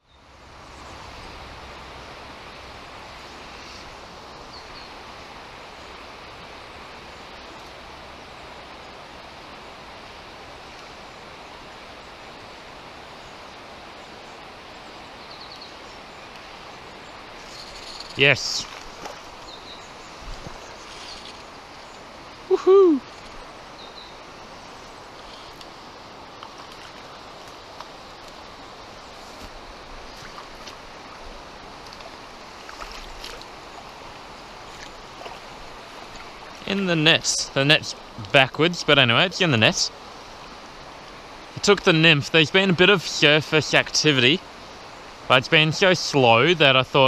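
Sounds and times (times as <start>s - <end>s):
river water rushing: 0.2s - 47.0s.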